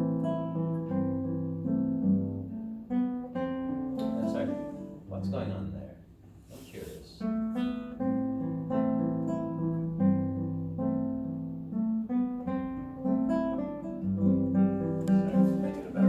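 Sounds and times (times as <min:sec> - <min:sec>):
classical guitar playing: 0:00.0 - 0:05.7, 0:07.2 - 0:16.0.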